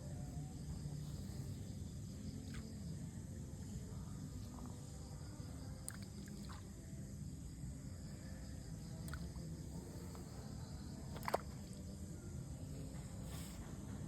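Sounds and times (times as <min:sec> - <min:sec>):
high insect hum: 0:00.0 - 0:14.0.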